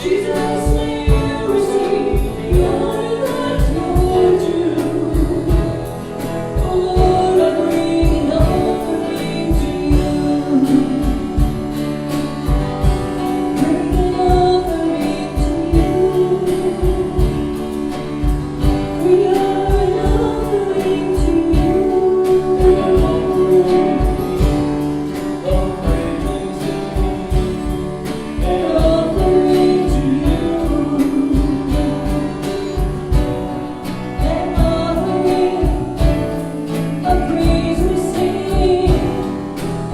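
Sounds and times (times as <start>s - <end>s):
group singing worship song with band: 0.0s - 39.9s.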